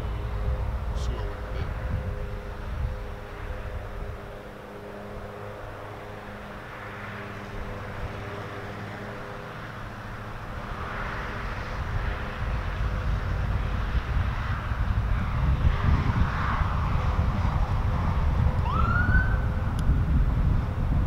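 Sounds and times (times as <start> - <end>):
distant traffic engine hum: 0.0 - 21.0
wind rumble on microphone: 0.0 - 21.0.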